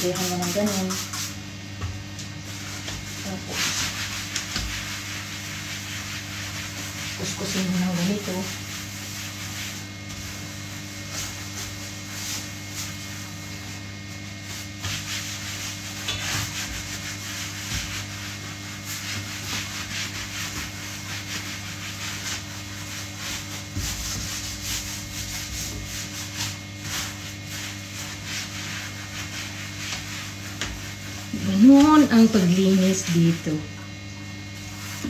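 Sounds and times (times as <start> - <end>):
cleaning pad scrubbing tiled floor: 0.0 - 35.0
steady low hum: 0.0 - 35.0.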